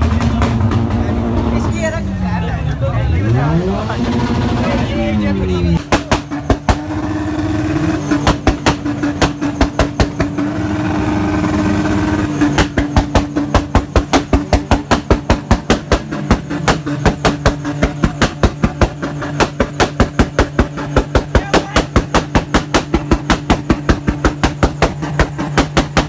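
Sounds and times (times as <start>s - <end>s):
car engine at high revs: 0.0s - 26.0s
exhaust cracks: 3.2s - 26.0s.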